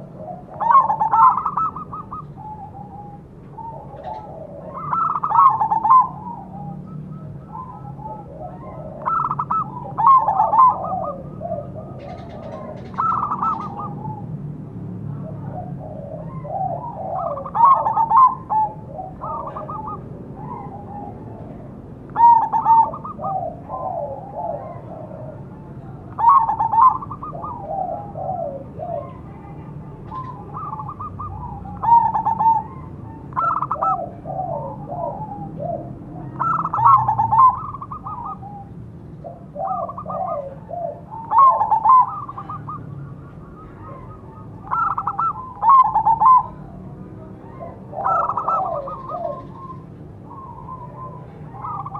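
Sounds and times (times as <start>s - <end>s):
dove cooing song: 0.0s - 51.9s.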